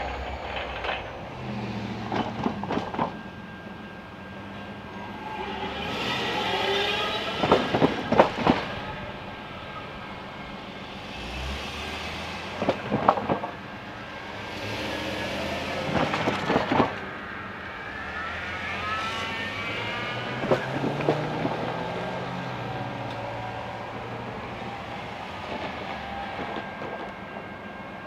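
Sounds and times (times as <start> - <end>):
vehicle engines passing: 0.0 - 27.8.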